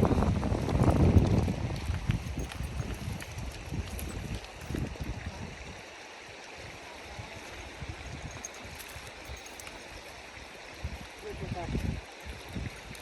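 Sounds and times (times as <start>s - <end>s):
river water rushing: 2.3s - 13.0s.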